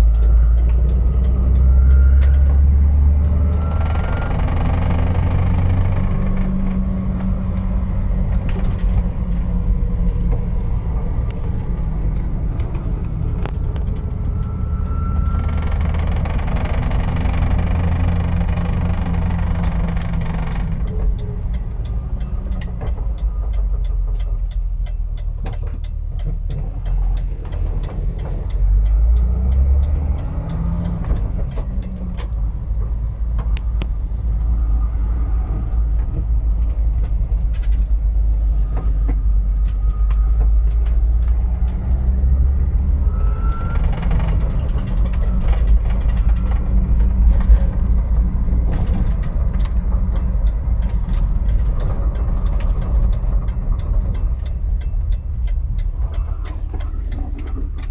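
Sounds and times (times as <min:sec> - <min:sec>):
car engine running: 0:00.0 - 0:57.9
engine whine: 0:00.0 - 0:57.9.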